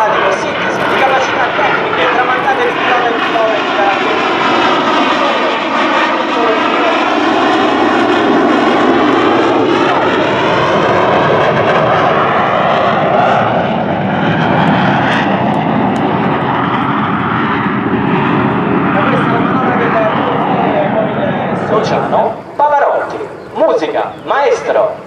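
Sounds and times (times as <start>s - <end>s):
jet engine flying past: 0.0s - 25.0s.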